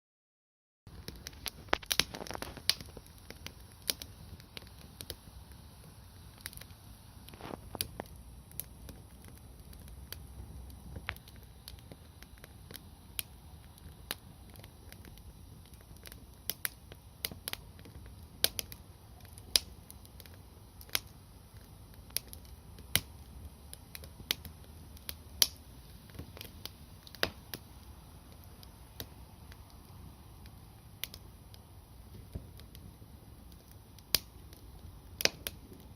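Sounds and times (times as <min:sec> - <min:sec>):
campfire crackling and popping: 0:00.9 - 0:35.9
faint low rumble: 0:00.9 - 0:35.9.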